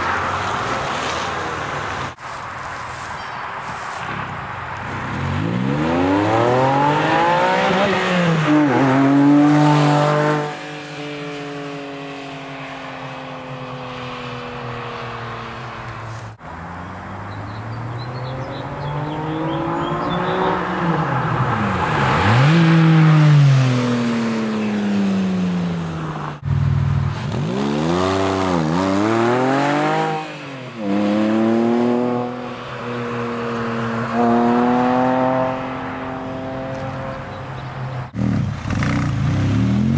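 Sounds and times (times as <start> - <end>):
car engine revving: 4.9 - 39.9.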